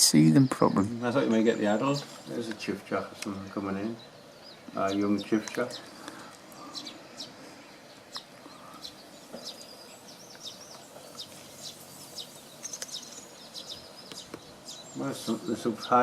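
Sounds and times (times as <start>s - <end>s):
faint background hiss: 0.0s - 16.0s
small birds chirping: 0.0s - 16.0s.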